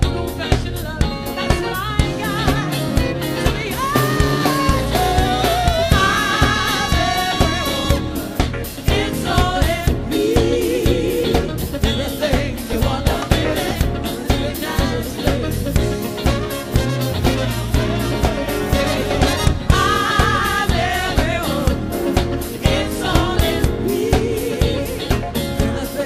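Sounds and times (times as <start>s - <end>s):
live soul band playing: 0.0s - 26.0s
woman singing lead: 0.0s - 26.0s.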